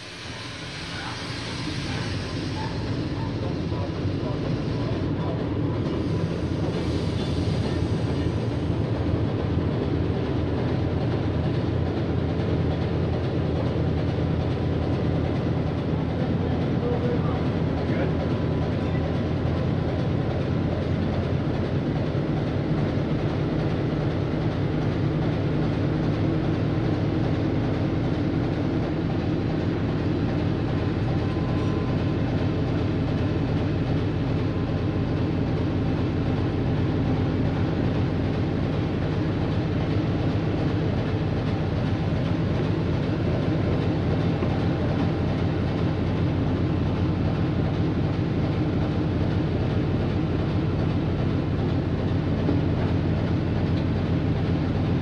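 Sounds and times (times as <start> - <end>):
diesel engines rumbling: 0.0 - 55.0.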